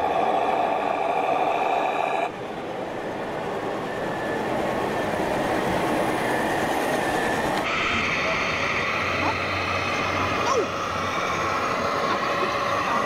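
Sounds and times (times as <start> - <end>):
model trucks running: 2.1 - 13.0.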